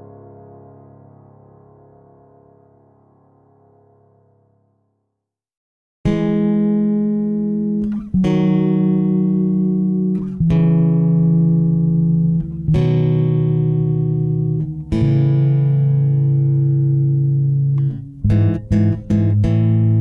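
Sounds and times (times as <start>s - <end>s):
slow plucked-string music: 0.0s - 4.2s, 6.1s - 20.0s.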